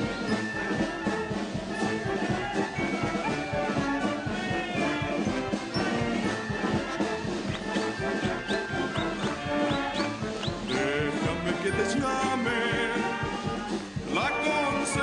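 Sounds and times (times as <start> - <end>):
concert band with brass: 0.0 - 15.0
steady drum beat: 0.0 - 15.0.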